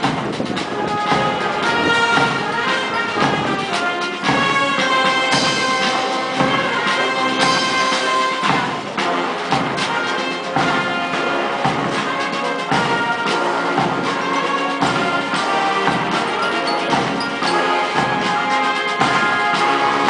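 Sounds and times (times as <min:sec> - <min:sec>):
drum beats: 0:00.0 - 0:20.0
military band playing a march: 0:00.0 - 0:20.0.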